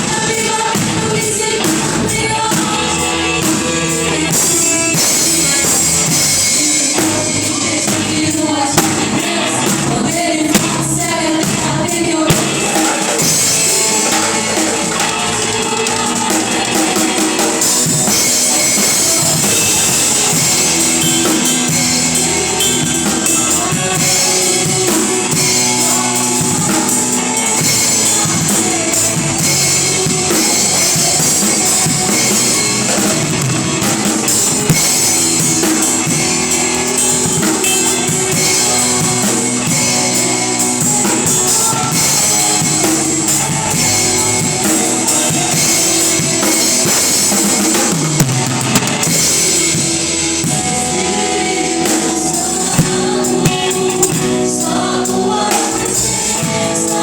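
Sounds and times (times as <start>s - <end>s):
person singing: 0.0s - 48.2s, 49.0s - 57.0s
drum kit with bass drum: 0.0s - 57.0s
guitar: 0.0s - 57.0s
worship band playing: 0.0s - 57.0s.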